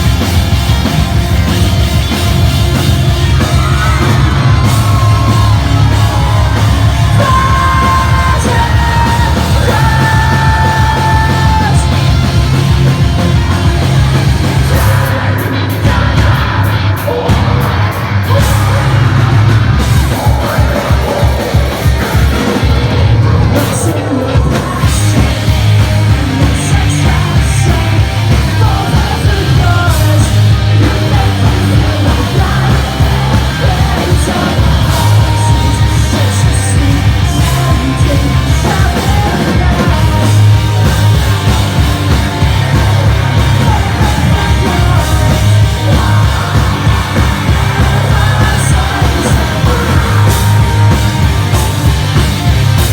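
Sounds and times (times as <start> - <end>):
heavy rock band playing: 0.0 - 52.9
screamed vocals: 2.8 - 12.4, 13.3 - 52.0.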